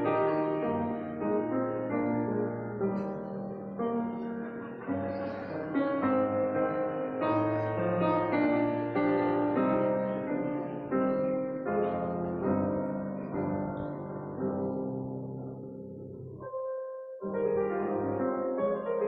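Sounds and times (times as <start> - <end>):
slow solo piano chords: 0.0 - 19.0.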